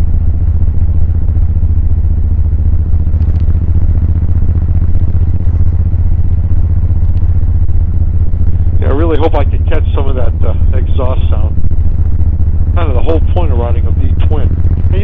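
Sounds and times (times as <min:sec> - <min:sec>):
motorcycle engine cruising: 0:00.0 - 0:15.0
wind rush over microphone: 0:00.0 - 0:15.0.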